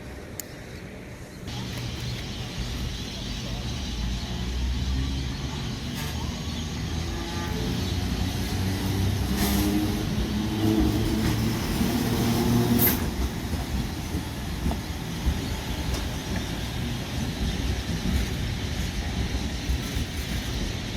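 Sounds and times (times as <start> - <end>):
electric train humming and rumbling: 0.0 - 20.9.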